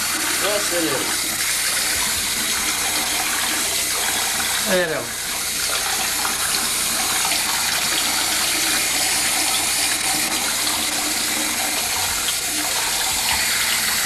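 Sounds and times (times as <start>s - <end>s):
tap water splashing into sink: 0.0s - 14.0s.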